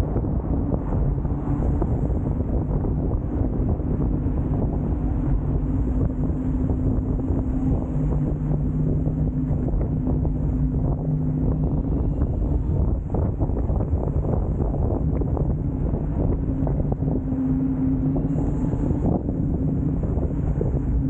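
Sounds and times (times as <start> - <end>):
steady low hum: 0.0 - 21.0
wind rushing over microphone: 0.0 - 21.0.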